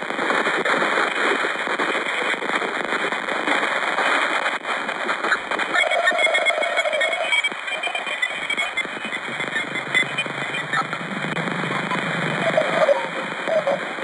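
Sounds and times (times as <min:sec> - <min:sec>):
crackling static: 0:00.0 - 0:14.0.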